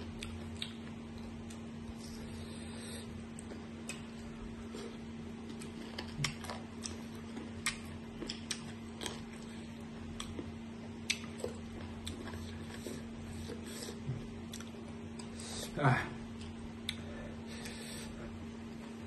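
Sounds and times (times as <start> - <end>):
steady low hum: 0.0 - 19.0
crunchy chewing: 0.1 - 15.6.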